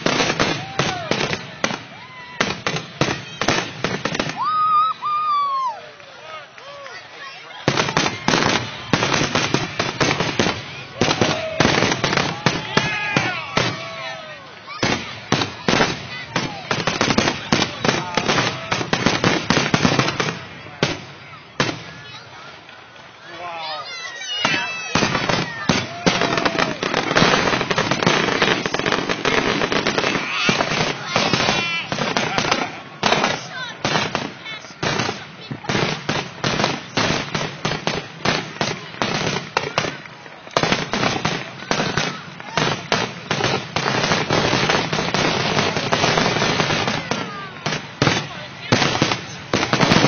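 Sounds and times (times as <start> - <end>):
falling whistling fireworks: 0.0 - 5.8, 6.6 - 50.0
fireworks cracking and banging: 0.0 - 50.0.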